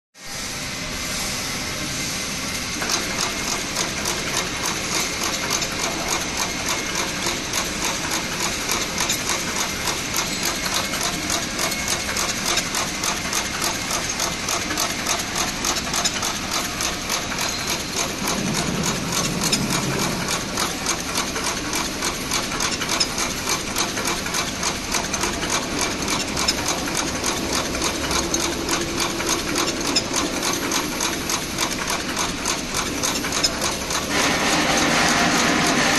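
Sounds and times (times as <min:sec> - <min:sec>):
wick cutting machine clattering: 0:02.8 - 0:35.9.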